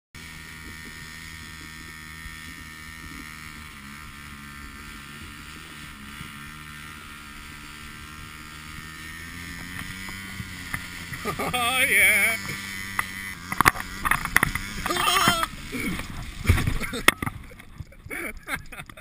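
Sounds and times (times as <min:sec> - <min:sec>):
kayak hull sliding over snow: 0:00.2 - 0:19.0
quad bike engine running: 0:00.2 - 0:19.0.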